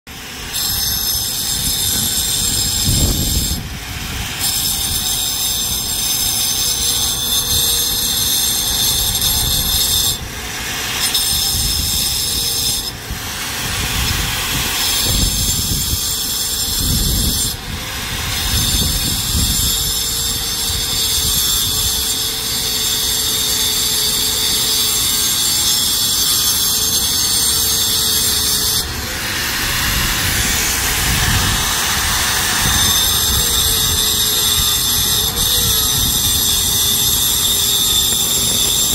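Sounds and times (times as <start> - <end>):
angle grinder grinding concrete: 0.1 - 38.9.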